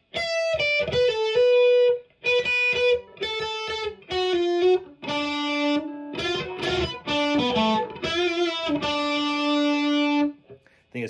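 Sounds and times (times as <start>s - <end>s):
electric guitar strummed chords: 0.1s - 10.4s
electric guitar single notes: 0.2s - 10.4s.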